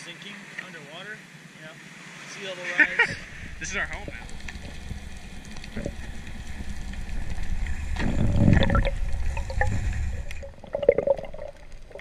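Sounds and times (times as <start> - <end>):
underwater rushing and gurgling: 0.0 - 12.0.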